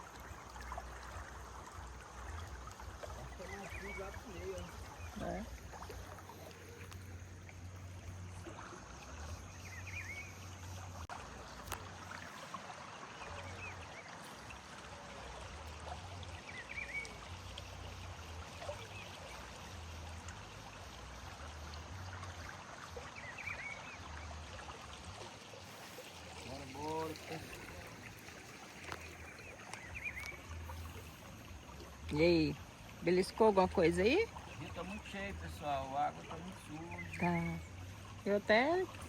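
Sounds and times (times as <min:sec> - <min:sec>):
river flowing over rocks: 0:00.0 - 0:39.0.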